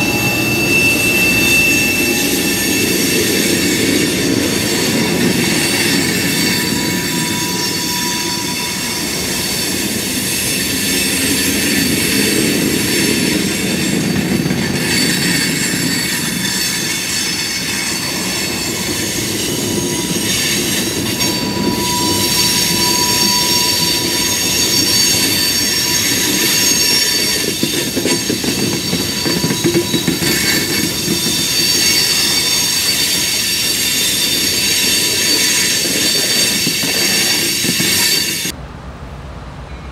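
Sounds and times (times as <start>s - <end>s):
high-pitched wheel squeal: 0.0s - 38.6s
freight cars rumbling on rails: 0.0s - 39.8s.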